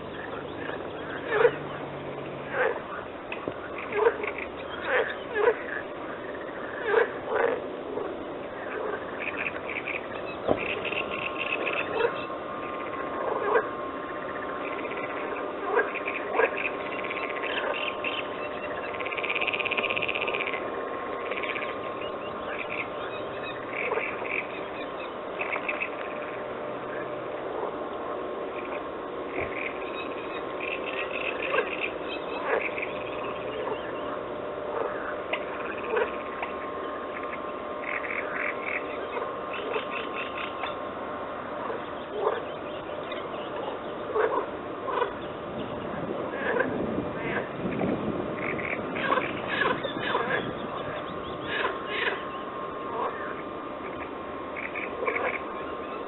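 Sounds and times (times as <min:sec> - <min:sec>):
rapid pulsed calls: 0:00.0 - 0:47.8, 0:48.4 - 0:56.0
frog chorus calling: 0:00.0 - 0:56.0.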